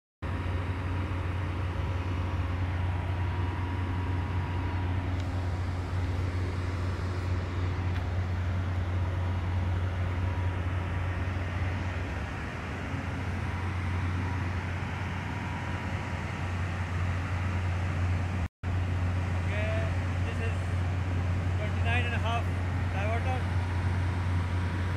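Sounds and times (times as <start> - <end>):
heavy drilling machinery drone: 0.2 - 24.9.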